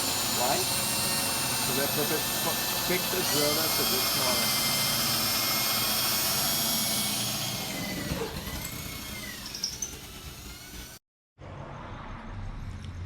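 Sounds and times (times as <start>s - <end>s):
power drill motor whine: 0.0s - 11.0s.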